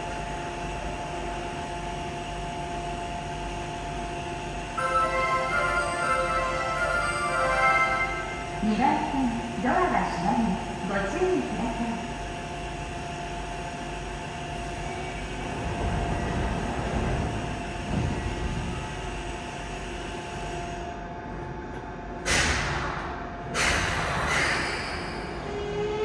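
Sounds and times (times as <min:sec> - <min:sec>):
train electrical hum: 0:00.0 - 0:26.0
train inverter rising whine: 0:00.0 - 0:26.0.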